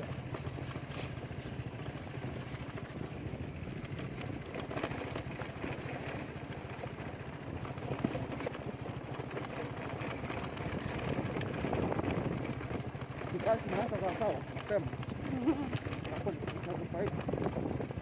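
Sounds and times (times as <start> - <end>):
motorcycle engine running: 0.0 - 18.0
rattles and knocks on bumpy road: 0.0 - 18.0.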